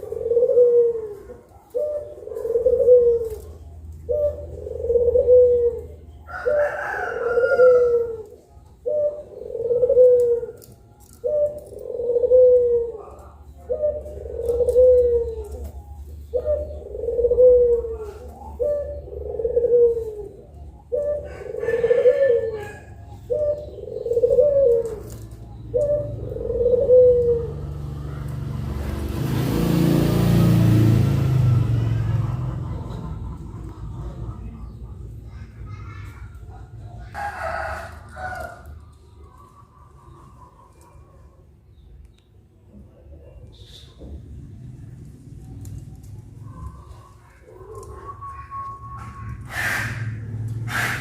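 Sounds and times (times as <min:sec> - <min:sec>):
dove cooing: 0:00.0 - 0:42.0, 0:42.6 - 0:51.0.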